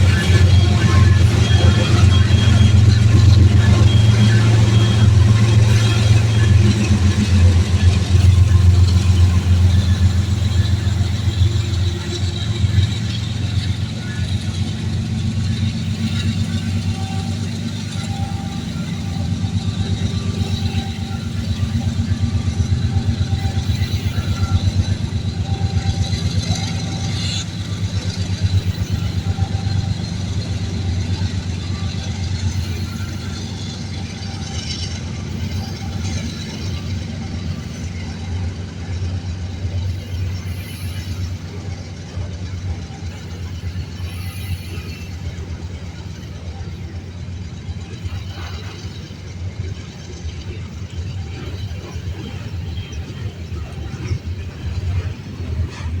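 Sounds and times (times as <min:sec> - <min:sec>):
freight train rumbling past: 0:00.0 - 0:56.0
train wheels clattering: 0:00.0 - 0:56.0.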